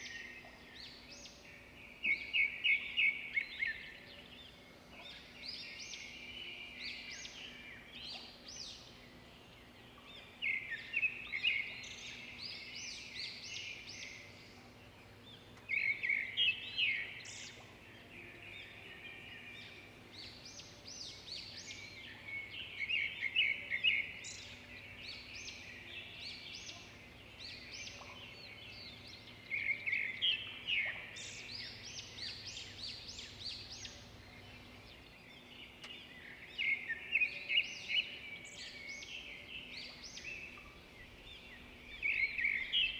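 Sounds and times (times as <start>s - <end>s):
faint steady hum: 0.0s - 42.9s
songbirds chirping: 0.0s - 42.9s.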